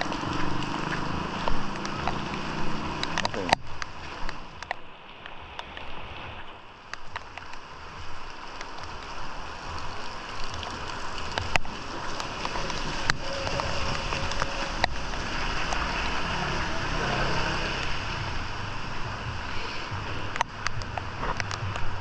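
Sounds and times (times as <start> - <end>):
sharp taps and drips: 0.0 - 5.9, 6.8 - 22.0
heavy rain falling: 0.0 - 22.0.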